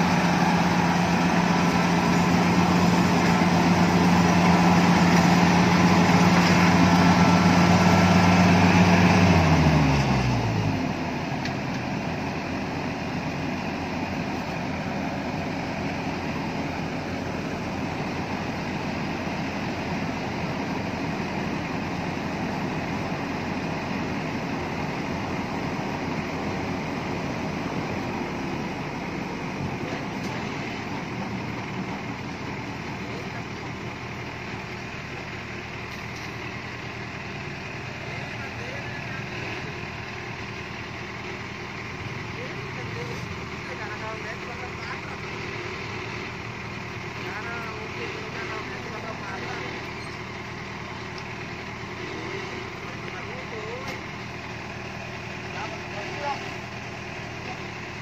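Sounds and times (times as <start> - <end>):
harvester engine running: 0.0 - 58.0.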